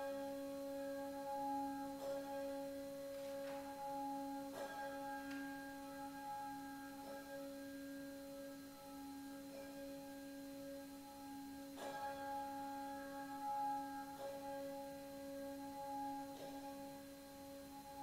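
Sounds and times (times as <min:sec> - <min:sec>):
soft ringing struck notes: 0:00.0 - 0:18.0.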